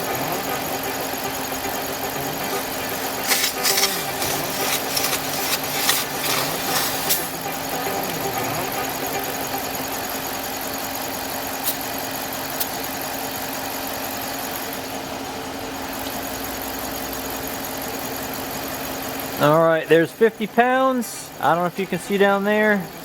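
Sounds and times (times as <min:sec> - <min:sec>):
air compressor running: 0:00.0 - 0:21.8.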